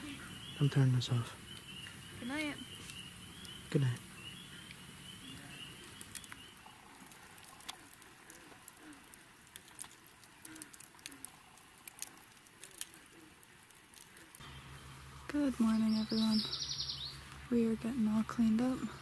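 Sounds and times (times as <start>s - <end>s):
coals crackling and popping: 0.0s - 19.0s.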